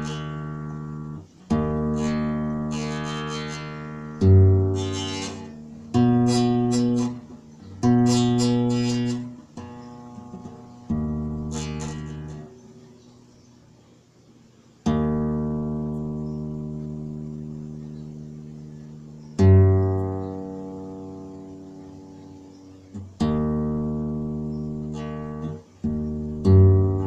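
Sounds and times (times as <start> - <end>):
guitar chords ringing: 0.0 - 12.9, 14.8 - 27.0.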